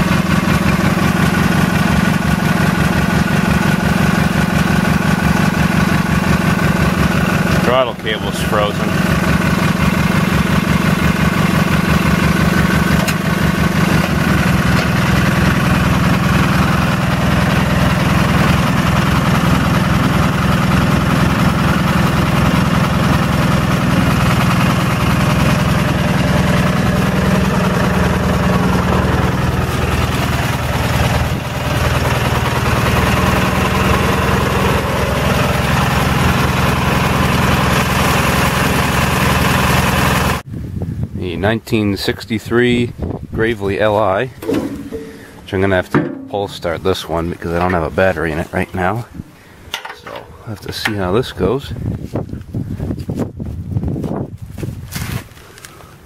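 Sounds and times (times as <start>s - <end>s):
garden tractor engine running: 0.0s - 40.5s, 43.4s - 53.6s.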